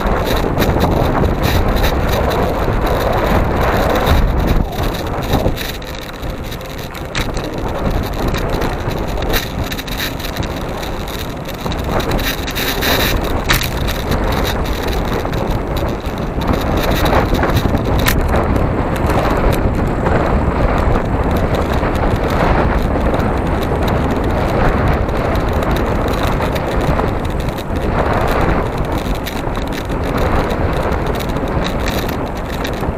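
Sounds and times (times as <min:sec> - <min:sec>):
sharp ticks: 0:00.0 - 0:32.9
tyre and road rumble: 0:00.0 - 0:32.9
wind rushing over microphone: 0:00.0 - 0:32.9.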